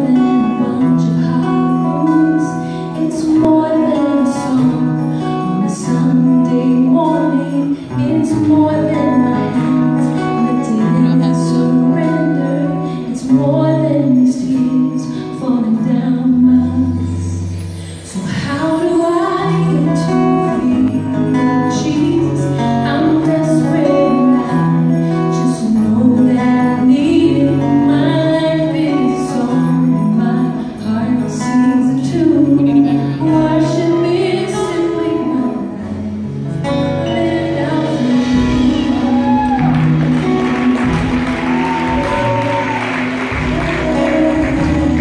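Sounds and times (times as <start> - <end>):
acoustic guitar: 0.0 - 45.0.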